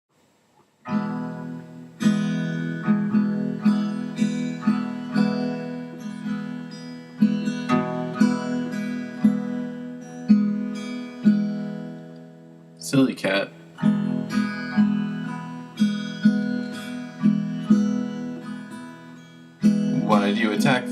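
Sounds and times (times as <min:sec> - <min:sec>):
acoustic guitar strumming chords: 0:00.8 - 0:20.9.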